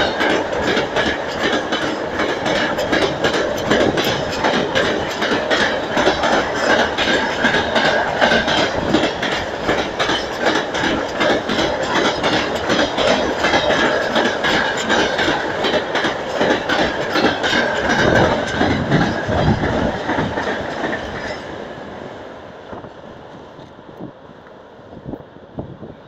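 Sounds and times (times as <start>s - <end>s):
train wheels clacking over rail joints: 0.0s - 21.6s.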